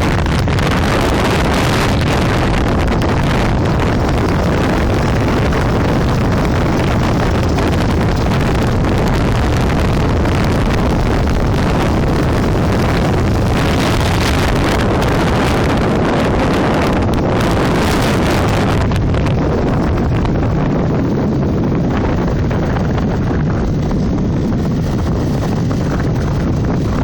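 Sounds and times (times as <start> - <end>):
motorcycle engine running: 0.0 - 27.0
wind rushing on microphone: 0.0 - 27.0.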